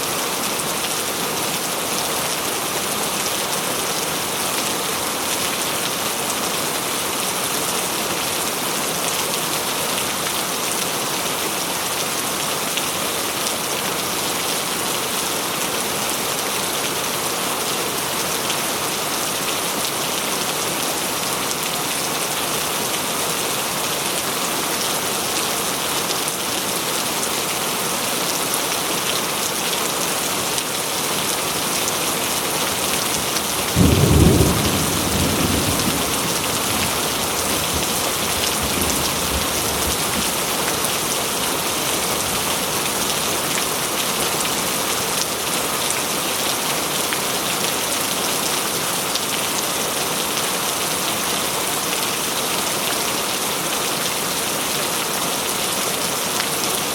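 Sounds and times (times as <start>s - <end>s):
heavy rain splashing: 0.0s - 56.9s.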